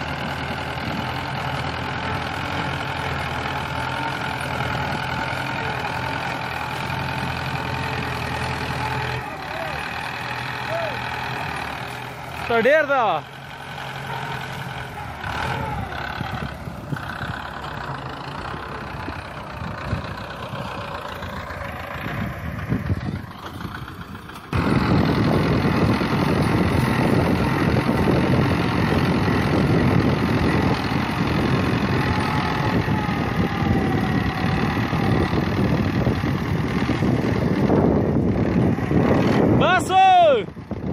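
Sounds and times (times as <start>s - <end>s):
loader pushing soil and stones: 0.0s - 40.9s
tractor engine running: 0.0s - 40.9s.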